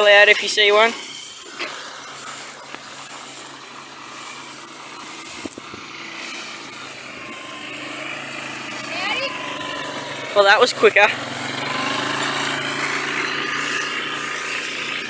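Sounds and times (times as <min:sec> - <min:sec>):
distant tractor engine hum: 0:00.0 - 0:15.0
rustling hiss: 0:00.0 - 0:15.0.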